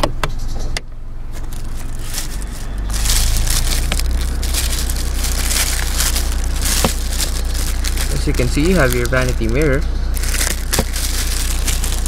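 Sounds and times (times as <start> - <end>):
steady low hum: 0.0 - 12.0
plastic wrapping crinkling: 1.3 - 12.0.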